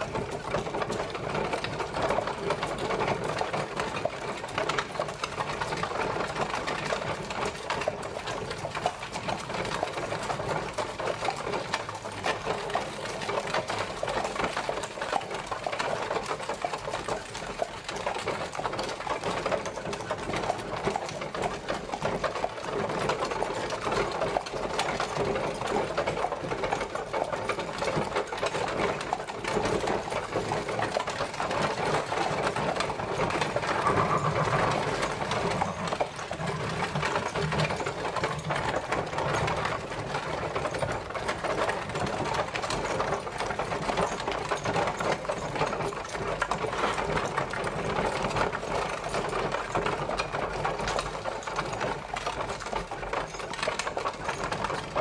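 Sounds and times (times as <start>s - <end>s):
carriage wheels rattling: 0.0s - 55.0s.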